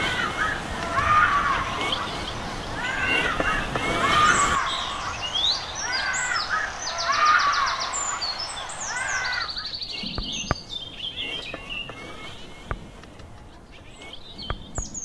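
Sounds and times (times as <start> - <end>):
birds calling: 0.0 - 15.0
rapid high bird trill: 0.0 - 15.0.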